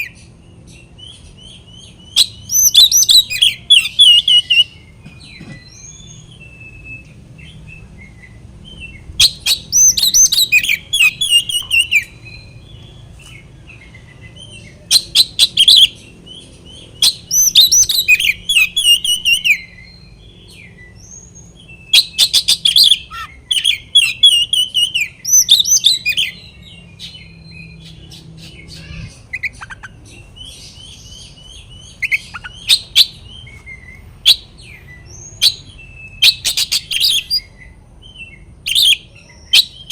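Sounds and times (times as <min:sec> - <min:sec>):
quiet bird twittering: 0:00.0 - 0:39.9
songbird singing with harsh rattles: 0:00.0 - 0:39.9.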